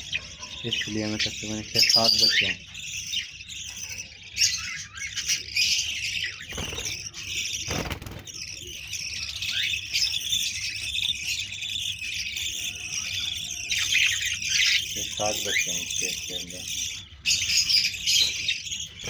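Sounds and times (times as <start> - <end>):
parrots chirping and chattering: 0.0 - 19.0.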